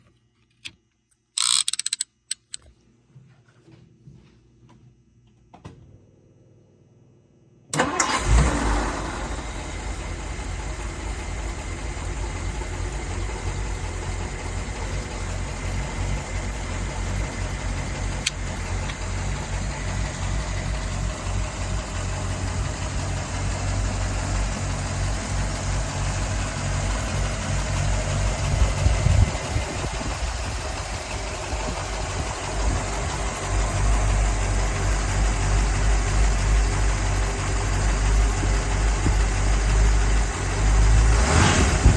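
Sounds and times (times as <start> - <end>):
car engine idling: 7.7 - 41.9.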